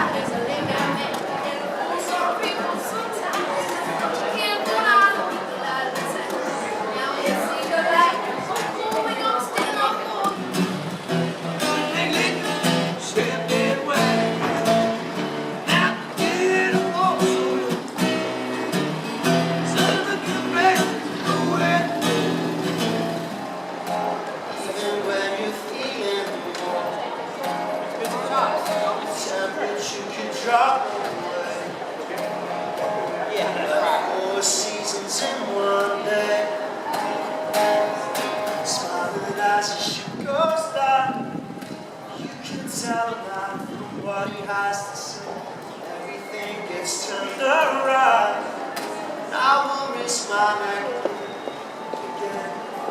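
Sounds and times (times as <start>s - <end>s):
acoustic guitar strumming: 2.0s - 52.9s.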